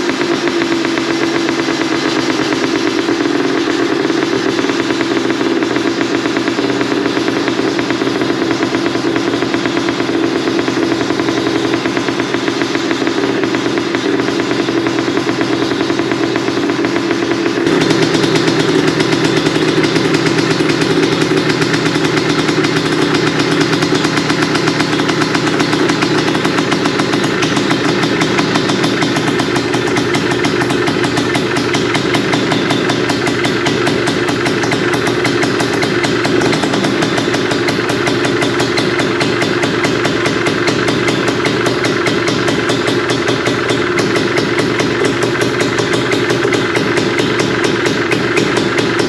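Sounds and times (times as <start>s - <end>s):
engine running at low revs: 0.0s - 49.0s.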